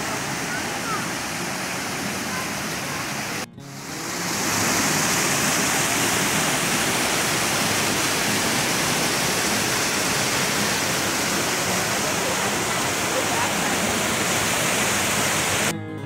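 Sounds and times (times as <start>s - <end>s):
waterfall rushing: 0.0s - 15.7s.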